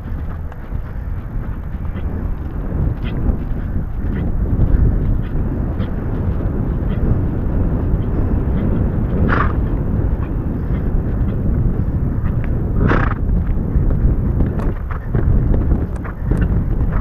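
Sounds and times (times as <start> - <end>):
faint hoofbeats: 0.0 - 17.0
wind rumbling on microphone: 0.0 - 17.0.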